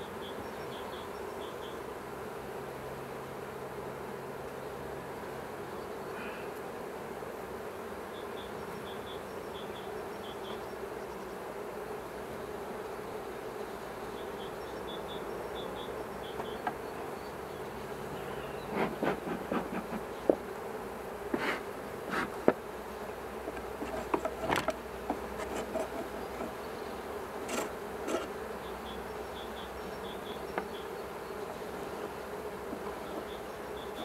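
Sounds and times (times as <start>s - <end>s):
honeybees humming: 0.0s - 34.0s.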